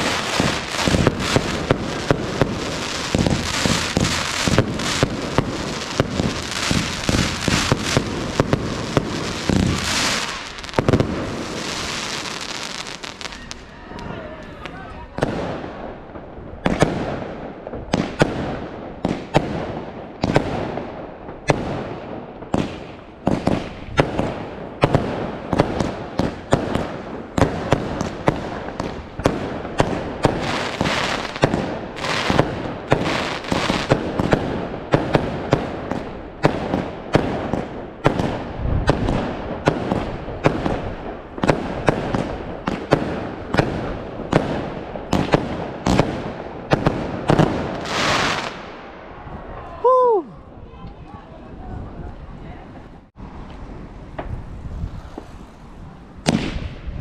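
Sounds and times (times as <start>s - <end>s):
firework bangs: 0.0s - 49.7s, 53.7s - 57.0s
firework crackling: 0.0s - 50.3s, 53.0s - 57.0s.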